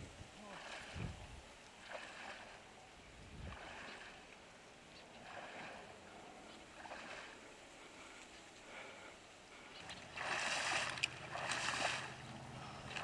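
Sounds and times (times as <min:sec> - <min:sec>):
wading through water and mud: 0:00.0 - 0:13.0.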